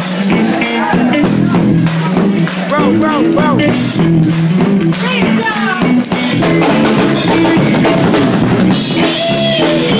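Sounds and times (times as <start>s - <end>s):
drum kit beat: 0.0s - 9.9s
live band music: 0.0s - 9.9s.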